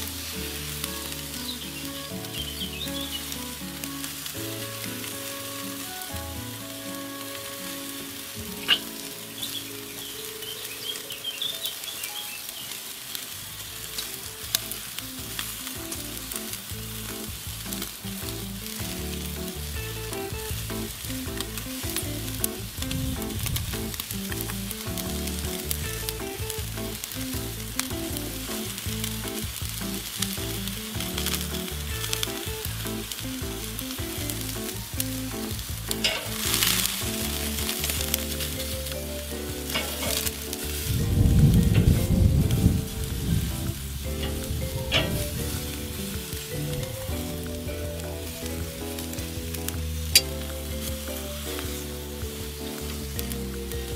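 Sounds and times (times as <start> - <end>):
steaks sizzling on a grill: 0.0 - 53.9.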